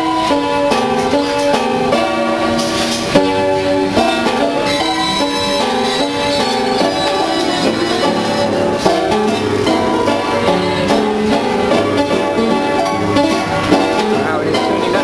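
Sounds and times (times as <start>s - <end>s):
player piano playing: 0.0s - 15.0s.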